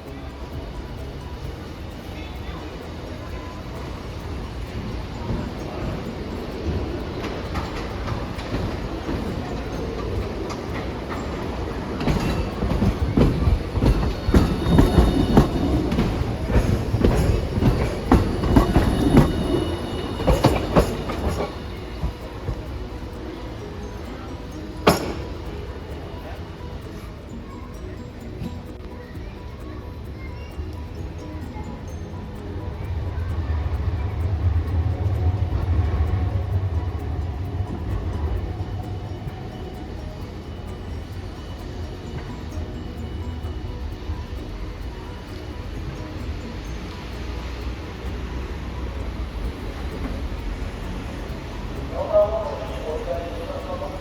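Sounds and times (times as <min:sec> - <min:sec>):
faint high wheel squeal: 0:00.0 - 0:54.0
streetcar wheels clacking over rail joints: 0:00.0 - 0:54.0.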